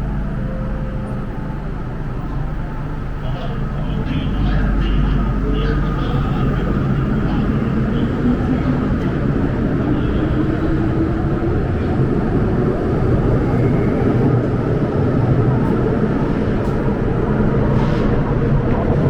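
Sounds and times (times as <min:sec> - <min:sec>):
loud train rumble: 0:00.0 - 0:19.0.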